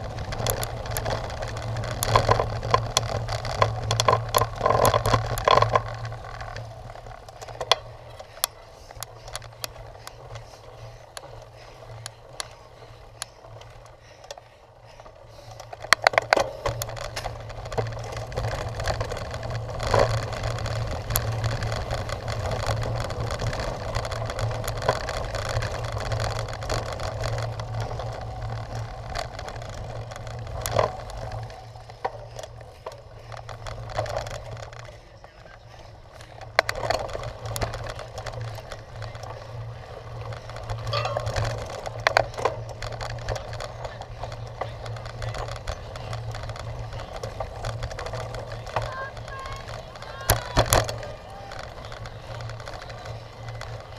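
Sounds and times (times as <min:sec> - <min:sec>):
bike rattles and clicks: 0:00.0 - 0:53.9
bike tyre and drivetrain noise: 0:00.0 - 0:53.9.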